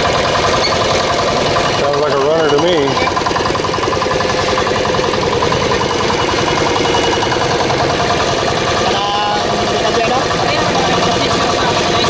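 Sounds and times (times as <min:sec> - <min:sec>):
small diesel engine running: 0:00.0 - 0:12.0.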